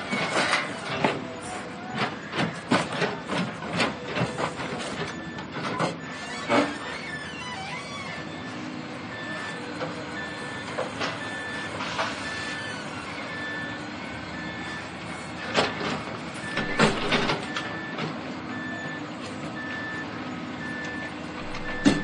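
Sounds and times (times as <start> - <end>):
heavy demolition machinery running: 0.0 - 22.0
reversing alarm beeping: 0.0 - 22.0.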